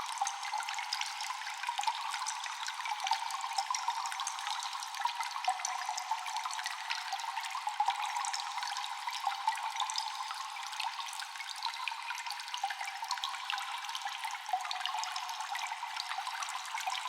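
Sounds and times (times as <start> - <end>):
echoing water drops in cave: 0.0 - 17.0.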